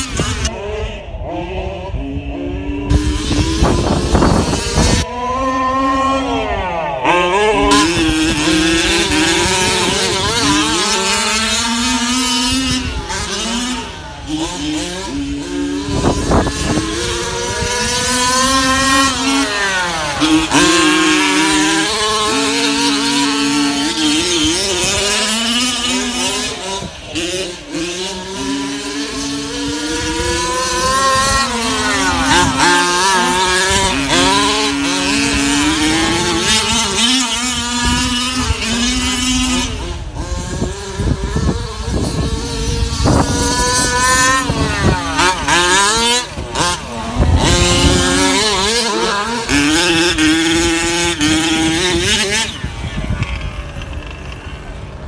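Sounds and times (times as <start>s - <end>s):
rc truck engines revving: 0.0s - 55.0s.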